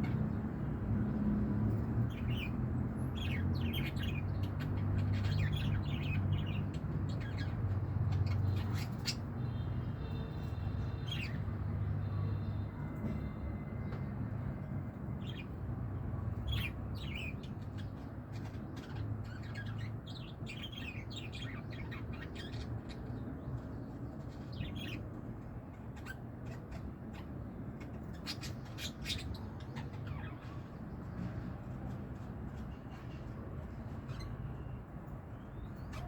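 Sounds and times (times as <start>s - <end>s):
lovebirds chirping and squawking: 0.0s - 14.0s, 15.0s - 34.8s, 35.4s - 36.0s.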